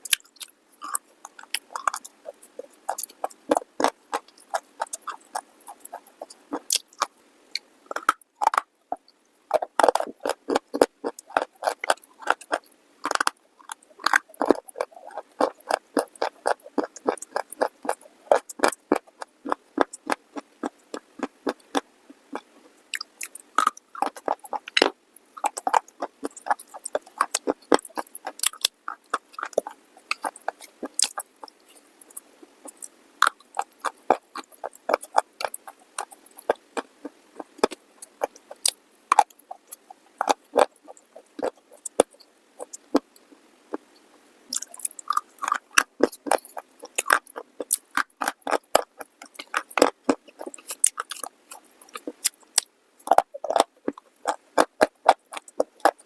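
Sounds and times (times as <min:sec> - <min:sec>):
crunching and chewing hard clay: 0:00.0 - 0:43.9, 0:44.5 - 0:56.0.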